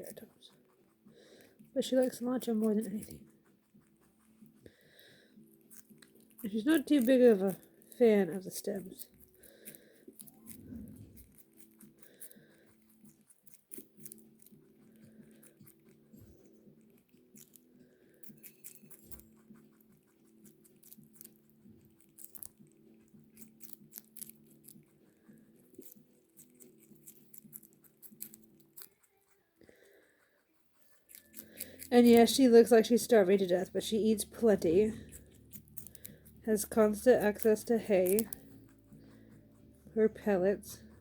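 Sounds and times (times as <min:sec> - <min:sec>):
rabbit chewing greens: 0:00.0 - 0:41.0.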